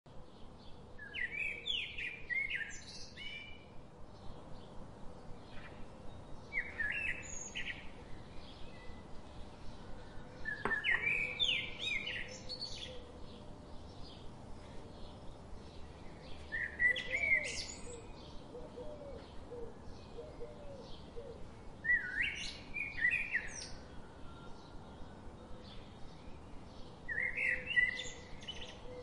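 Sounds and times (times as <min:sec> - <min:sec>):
songbirds chirping and twittering: 0:00.1 - 0:29.0.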